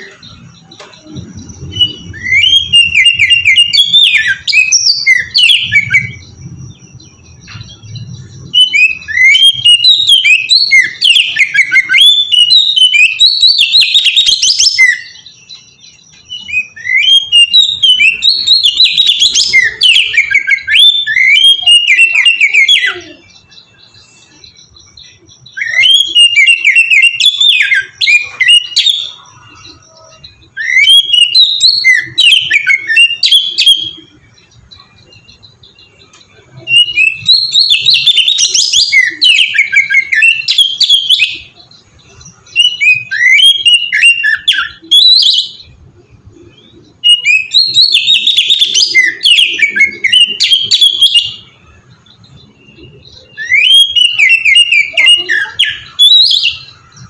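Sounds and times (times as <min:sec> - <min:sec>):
bird singing whistled phrases: 0:00.0 - 0:45.8, 0:46.4 - 0:57.0.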